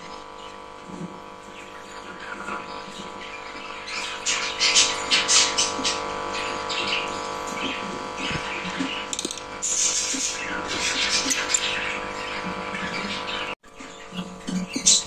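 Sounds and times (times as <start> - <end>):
bird chicks chirping: 0.0 - 15.0
electrical hum: 0.0 - 15.0.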